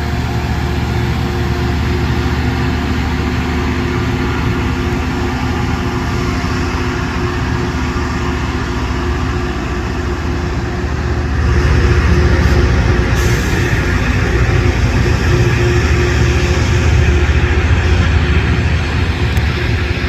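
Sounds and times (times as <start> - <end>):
grinding on rail: 0.0 - 20.0
rail grinder diesel engines: 0.0 - 20.0
steady hum tones: 0.0 - 20.0.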